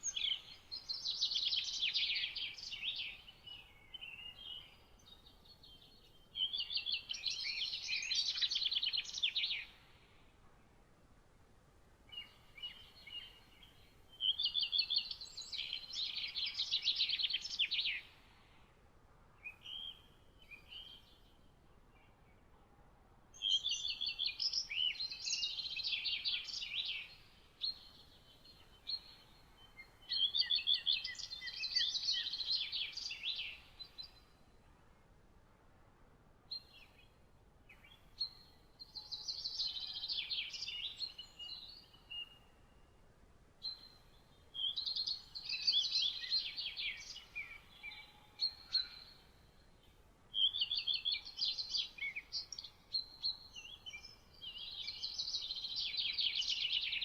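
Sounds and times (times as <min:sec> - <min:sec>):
faint steady background hiss: 0:00.0 - 0:57.0.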